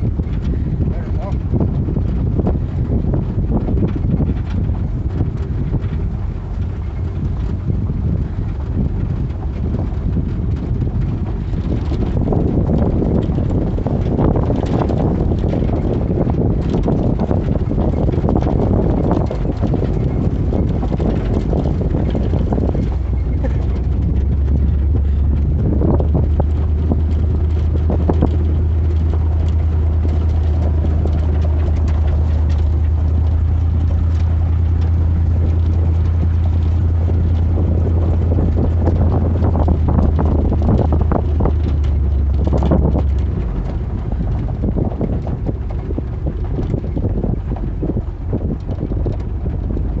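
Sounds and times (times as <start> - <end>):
rattles and knocks: 0.0 - 50.0
truck engine droning: 0.0 - 50.0
wind noise: 0.0 - 50.0.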